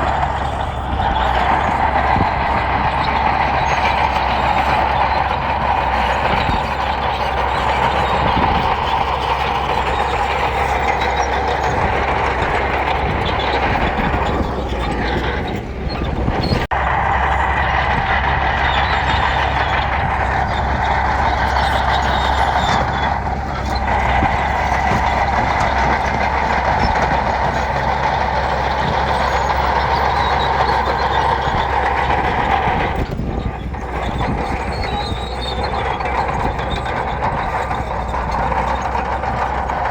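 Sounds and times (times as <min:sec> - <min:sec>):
bulldozer working on gravel: 0:00.0 - 0:39.9.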